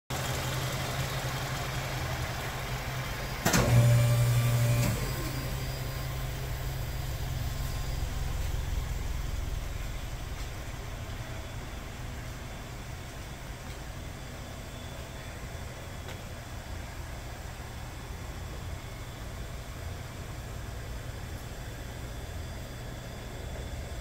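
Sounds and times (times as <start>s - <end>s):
car exhaust idling: 0.1s - 3.4s, 4.0s - 22.1s.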